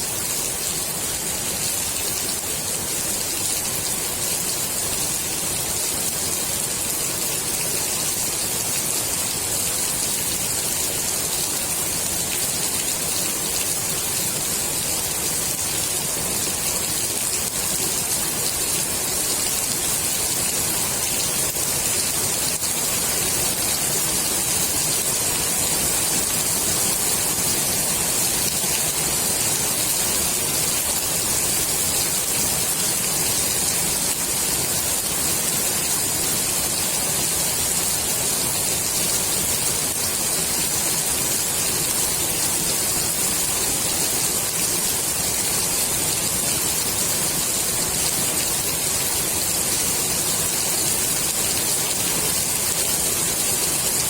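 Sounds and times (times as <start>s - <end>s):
rain falling on pool water: 0.0s - 54.0s.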